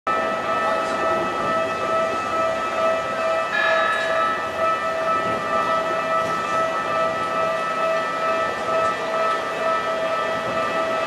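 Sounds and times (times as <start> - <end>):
level crossing warning bell: 0.1 - 11.0.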